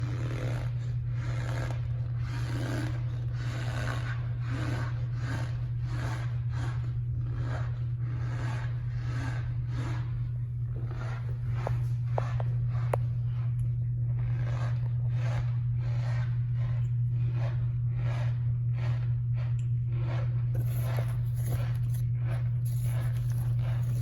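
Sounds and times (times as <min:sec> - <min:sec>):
cornstarch squeaking and crunching: 0:00.0 - 0:24.0
steady low hum: 0:00.0 - 0:24.0.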